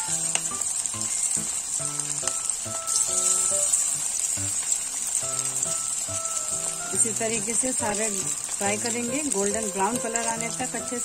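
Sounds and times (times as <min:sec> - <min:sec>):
melodic background music: 0:00.0 - 0:04.6, 0:05.2 - 0:11.0
food deep-frying in oil: 0:00.0 - 0:11.0.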